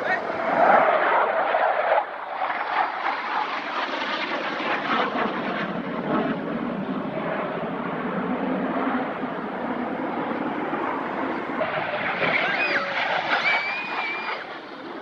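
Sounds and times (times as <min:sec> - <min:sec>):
airplane engine drone: 0:00.0 - 0:15.0.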